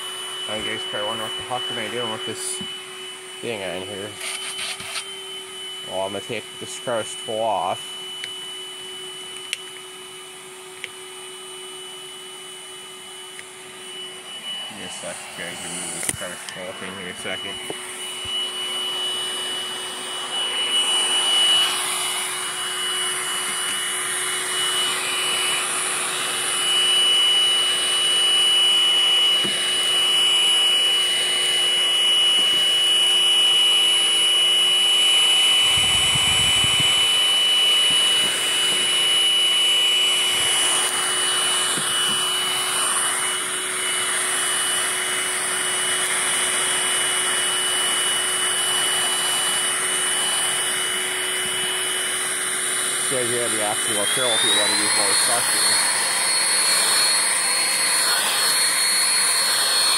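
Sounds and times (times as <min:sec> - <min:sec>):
vacuum cleaner whine: 0:00.0 - 0:59.9.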